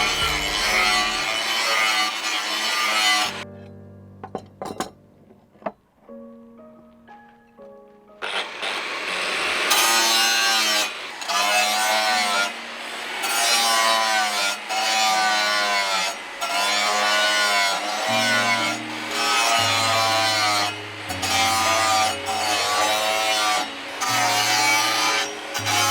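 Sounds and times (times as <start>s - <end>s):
file rasping on workpiece: 0.0s - 3.4s, 8.2s - 25.9s
background music with low notes: 0.0s - 8.2s, 11.4s - 25.9s.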